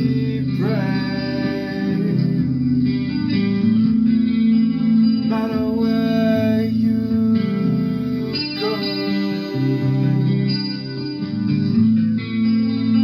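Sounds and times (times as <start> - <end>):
guitar music with bending notes: 0.0 - 13.0.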